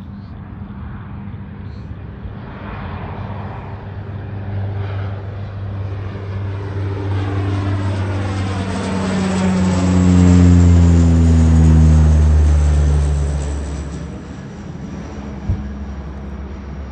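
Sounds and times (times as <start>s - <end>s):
propeller airliner passing: 0.0s - 16.9s.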